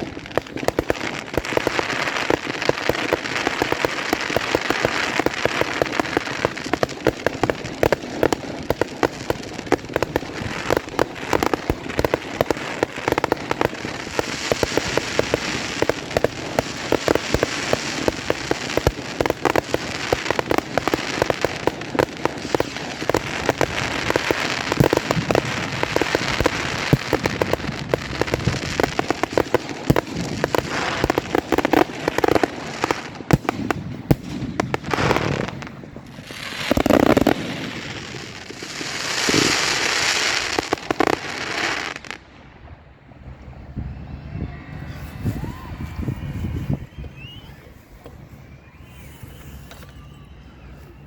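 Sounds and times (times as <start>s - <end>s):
fireworks hissing: 0.0s - 42.2s, 44.8s - 51.0s
fireworks crackling and banging: 0.0s - 51.0s.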